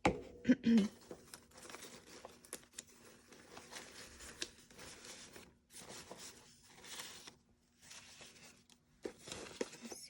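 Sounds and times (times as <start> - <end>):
paper rustling: 1.0 - 10.0.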